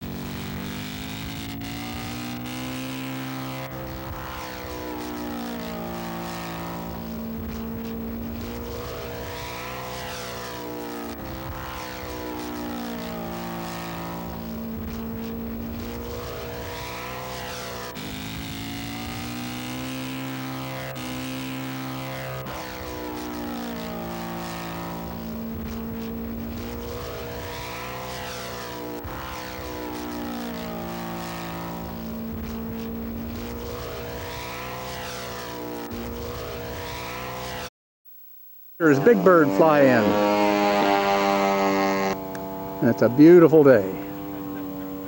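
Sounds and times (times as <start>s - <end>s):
model airplane engines flying past: 0.0s - 37.6s, 38.8s - 45.0s.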